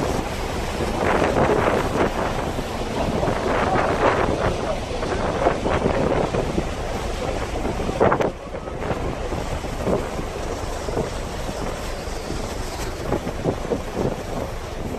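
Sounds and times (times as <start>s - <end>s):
boat engine low rumble: 0.0s - 14.9s
rush of water: 0.0s - 14.9s
wind buffeting microphone: 0.0s - 14.9s.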